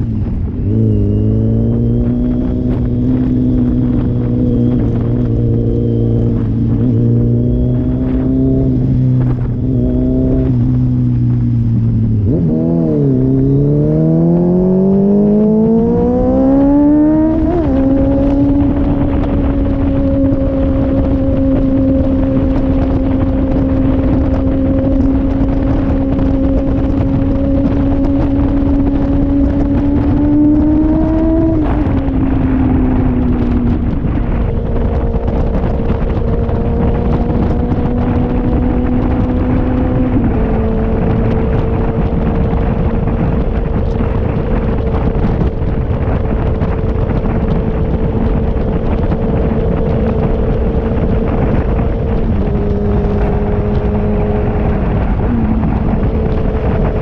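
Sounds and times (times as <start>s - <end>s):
motorcycle engine revving: 0.0s - 57.0s
wind rushing over microphone: 0.0s - 57.0s.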